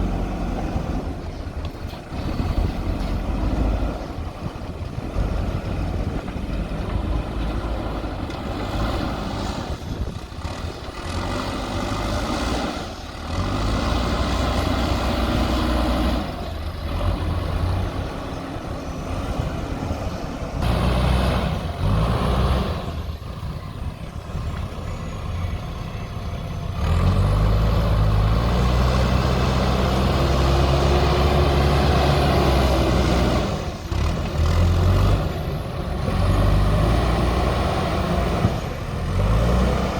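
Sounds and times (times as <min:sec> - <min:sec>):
diesel engine working under load: 0:00.0 - 0:39.9.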